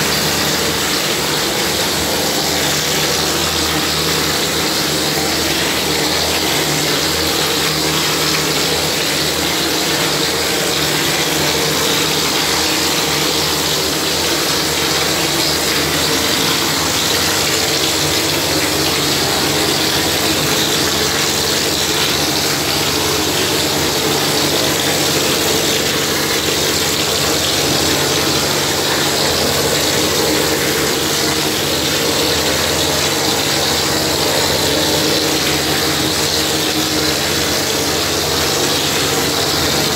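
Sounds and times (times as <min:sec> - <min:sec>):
machine droning: 0:00.0 - 0:39.9.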